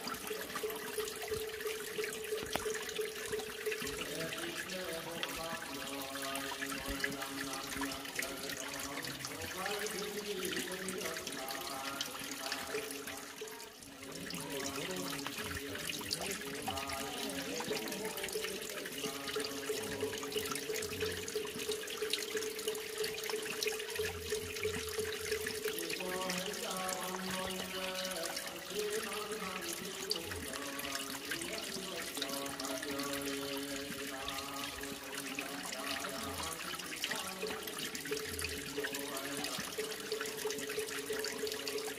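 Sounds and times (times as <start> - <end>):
water trickling onto stone: 0.0 - 41.9
chanting in background: 3.6 - 21.4, 24.0 - 41.9.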